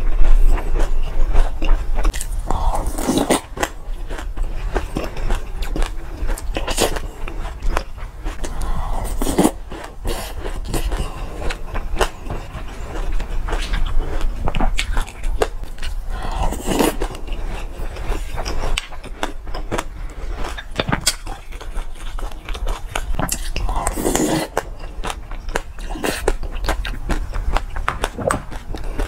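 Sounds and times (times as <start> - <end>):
chewing and crunching seeds: 0.0 - 29.0.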